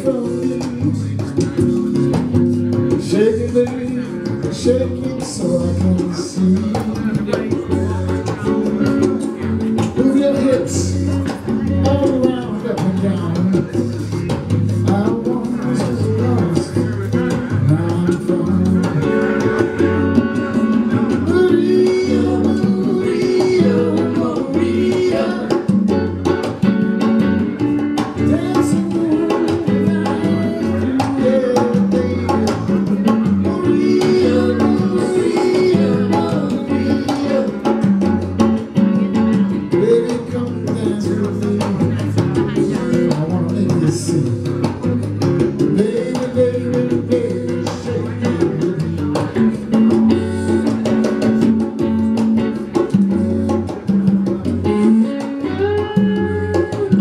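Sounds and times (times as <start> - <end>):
bass and drums: 0.0 - 57.0
electric guitar: 0.0 - 57.0.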